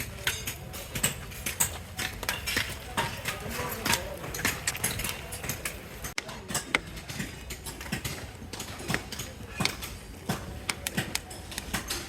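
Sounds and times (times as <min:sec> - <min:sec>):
hard objects clacking and knocking: 0:00.0 - 0:12.0.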